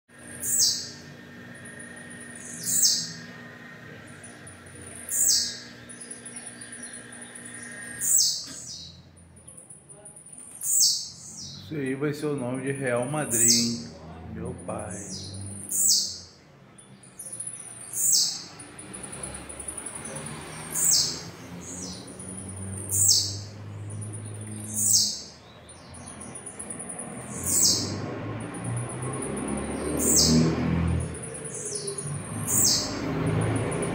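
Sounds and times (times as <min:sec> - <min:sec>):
bird singing: 0:00.1 - 0:33.9.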